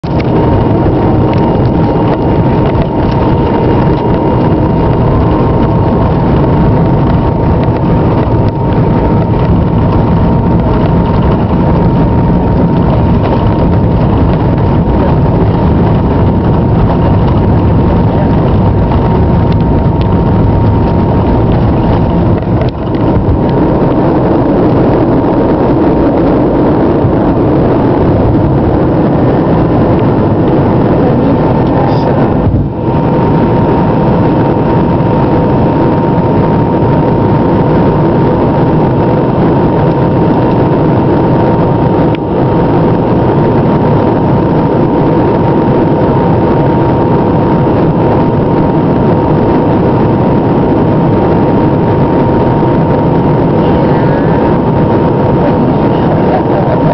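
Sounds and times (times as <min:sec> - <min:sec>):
jet engines roaring in cabin: 0:00.0 - 0:56.9.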